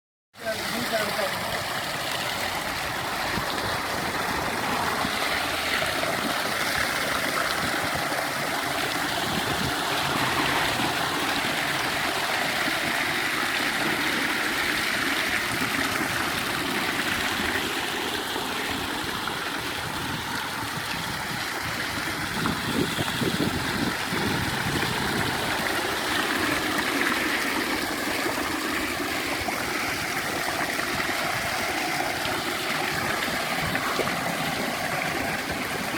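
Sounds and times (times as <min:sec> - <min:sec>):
water splashing over waterfall: 0:00.4 - 0:35.9.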